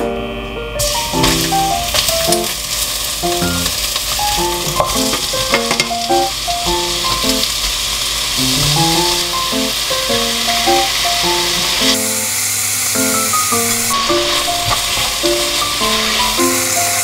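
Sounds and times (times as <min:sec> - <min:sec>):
vegetables sizzling in oil: 0:00.8 - 0:17.0.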